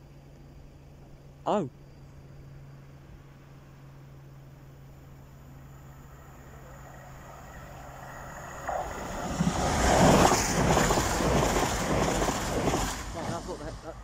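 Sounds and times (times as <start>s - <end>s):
diesel train passing: 2.6s - 14.0s.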